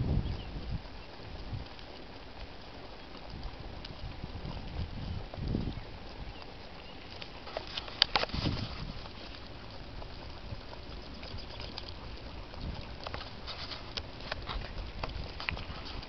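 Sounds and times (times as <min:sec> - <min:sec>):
cart wheels rolling on pavement: 0:00.0 - 0:16.0
paws pattering on asphalt: 0:00.0 - 0:16.0.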